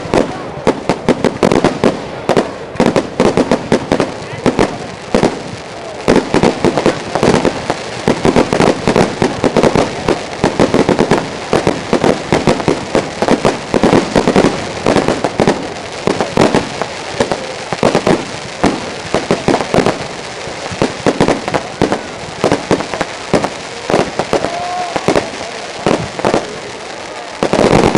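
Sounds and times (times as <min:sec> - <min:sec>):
fireworks bangs and crackling: 0:00.0 - 0:27.9.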